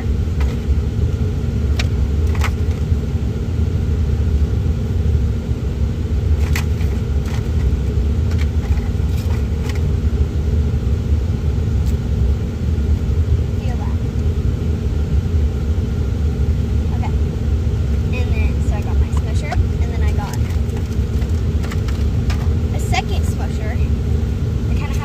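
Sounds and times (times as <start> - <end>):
faint steady hum: 0.0 - 25.0
moving car rumble: 0.0 - 25.0.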